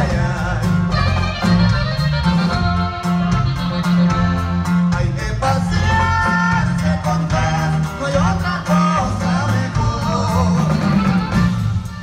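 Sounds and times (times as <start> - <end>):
live band playing instrumental: 0.0 - 12.0.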